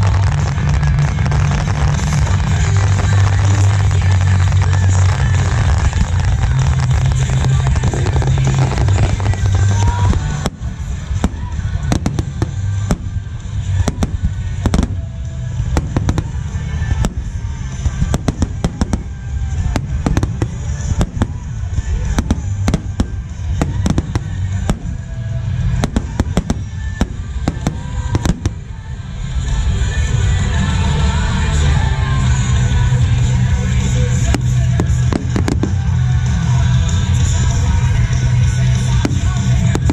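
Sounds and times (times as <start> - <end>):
deep rumble: 0.0 - 39.9.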